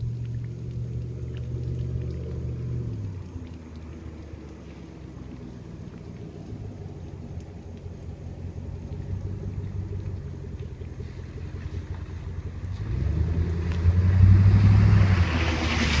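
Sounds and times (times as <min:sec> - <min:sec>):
low exhaust rumble: 0:00.0 - 0:16.0.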